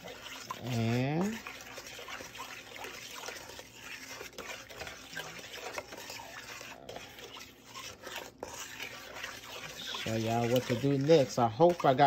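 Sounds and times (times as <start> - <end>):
spoon scraping a metal pot: 0.0 - 12.0
thick mixture sloshing in a pot: 0.0 - 12.0.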